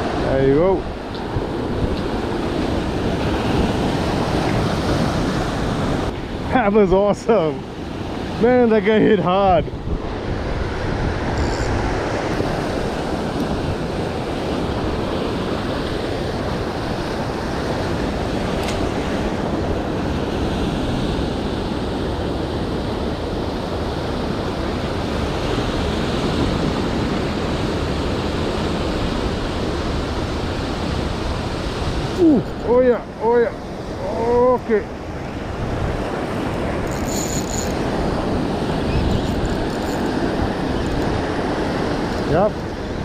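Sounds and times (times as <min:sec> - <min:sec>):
wind on microphone: 0:00.0 - 0:43.0.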